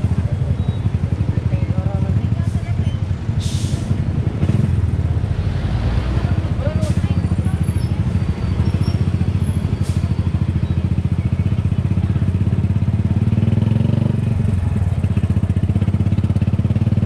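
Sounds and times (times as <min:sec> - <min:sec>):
motorcycle engine running: 0:00.0 - 0:03.4, 0:06.2 - 0:17.0.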